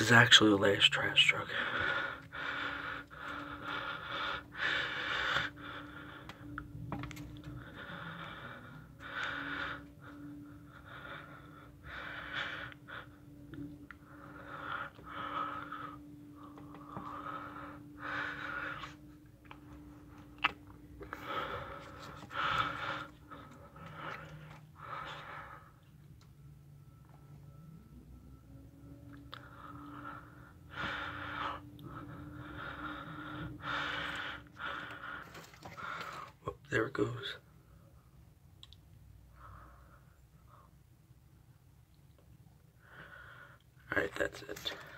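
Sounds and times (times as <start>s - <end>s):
heavy breathing: 0.0s - 27.6s, 28.2s - 36.4s, 42.7s - 44.9s.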